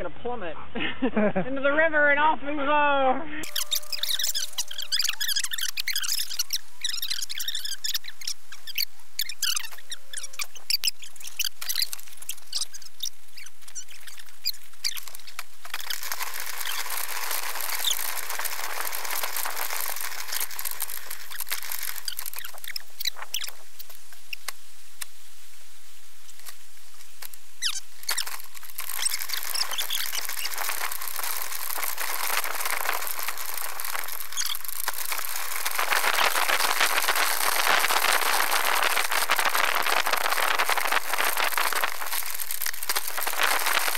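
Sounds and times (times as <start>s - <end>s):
bicycle clicking: 3.4s - 25.1s, 27.0s - 43.9s.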